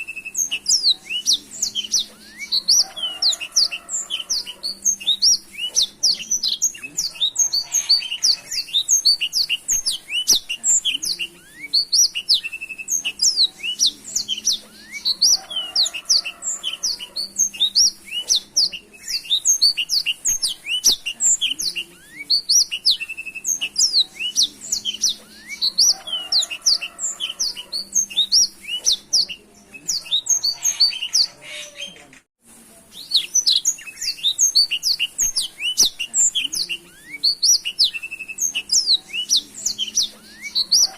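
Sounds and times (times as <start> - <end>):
canary twittering and trilling: 0.0 - 32.2, 33.0 - 40.9.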